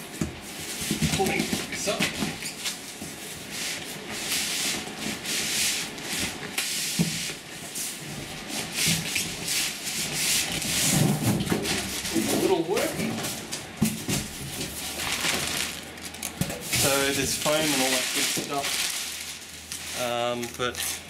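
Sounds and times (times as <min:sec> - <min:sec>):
cardboard scraping and rubbing: 0:00.4 - 0:15.9, 0:16.6 - 0:20.1.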